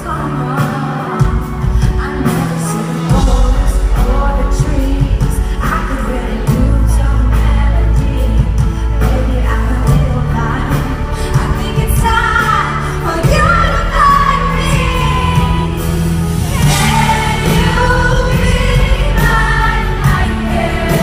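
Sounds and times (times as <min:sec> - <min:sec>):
person singing: 0:00.0 - 0:21.0
heavy bass: 0:01.2 - 0:21.0.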